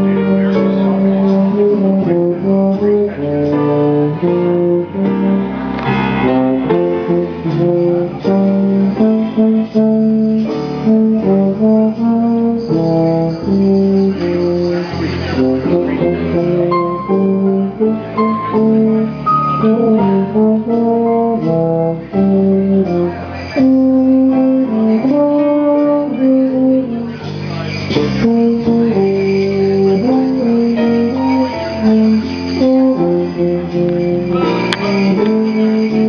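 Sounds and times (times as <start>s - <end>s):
low brass ensemble playing: 0.0s - 36.0s.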